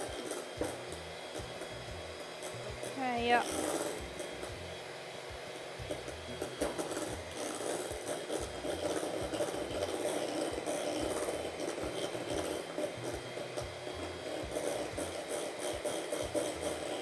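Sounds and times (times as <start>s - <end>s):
electric hand mixer running: 0.0s - 17.0s.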